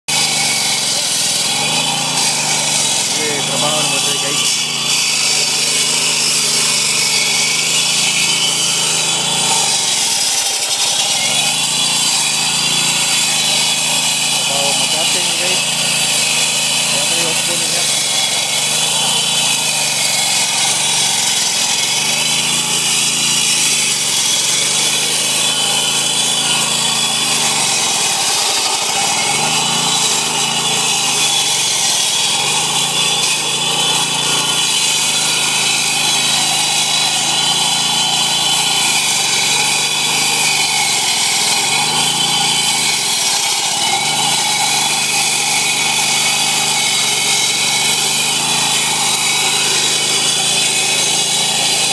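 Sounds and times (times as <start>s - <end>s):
saw blade grinding asphalt: 0.0s - 51.9s.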